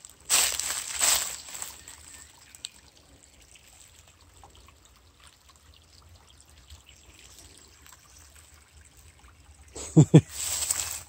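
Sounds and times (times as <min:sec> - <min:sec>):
brook trickling over rock: 0:00.0 - 0:11.0.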